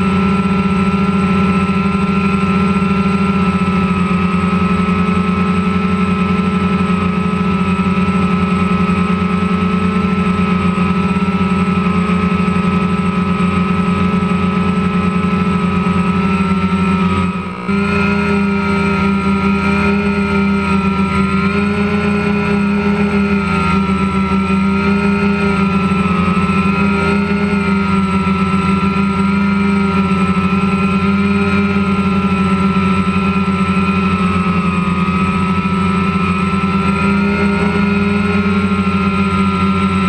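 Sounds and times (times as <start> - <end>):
drone motors humming: 0.0 - 40.0.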